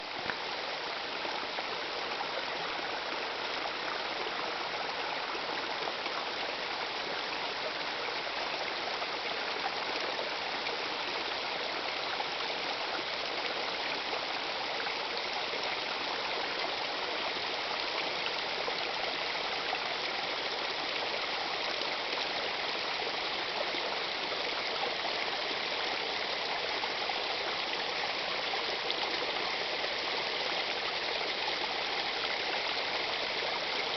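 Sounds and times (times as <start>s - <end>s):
small waterfall rushing: 0.0s - 33.9s.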